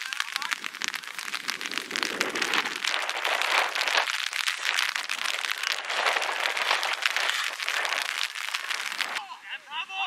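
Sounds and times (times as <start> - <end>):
rain pattering: 0.0 - 10.0.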